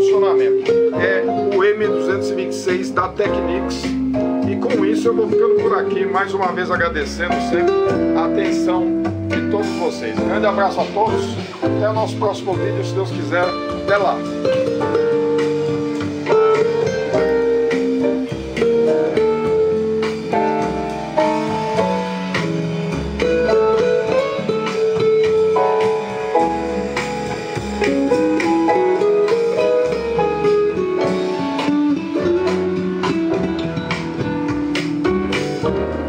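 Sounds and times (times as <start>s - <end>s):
guitar music from cassette: 0.0s - 36.0s.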